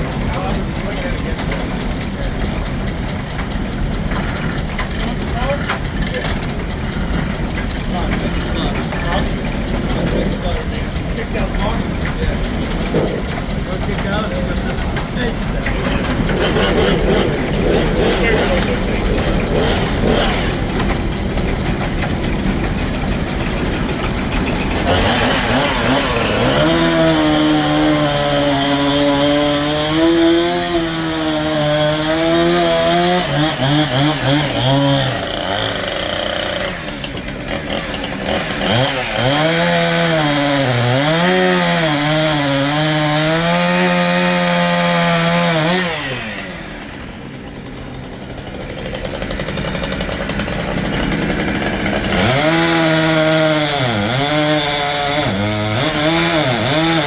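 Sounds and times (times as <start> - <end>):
circular saw cutting log: 0.0 - 57.0.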